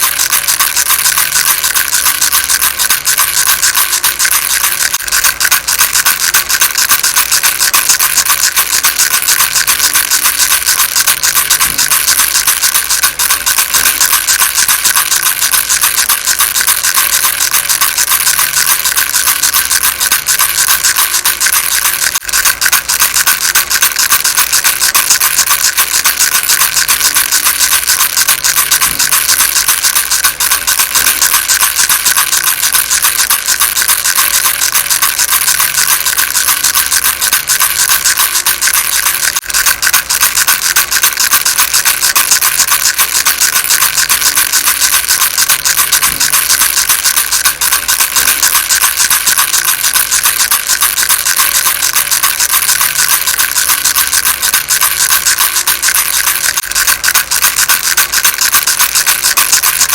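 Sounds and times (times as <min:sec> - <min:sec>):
baby rattle shaken: 0:00.0 - 0:59.9.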